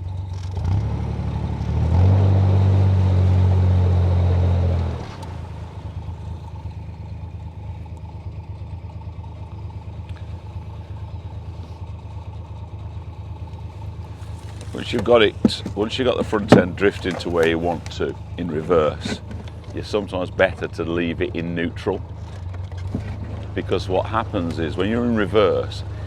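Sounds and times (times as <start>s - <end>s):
boat diesel engine: 0.0s - 26.0s.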